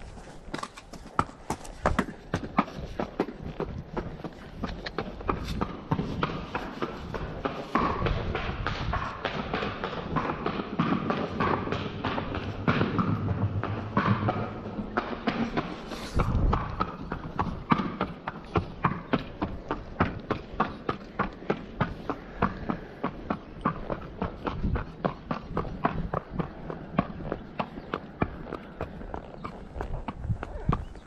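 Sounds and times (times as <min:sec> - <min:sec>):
hooves clip-clopping on concrete: 0:00.0 - 0:31.0.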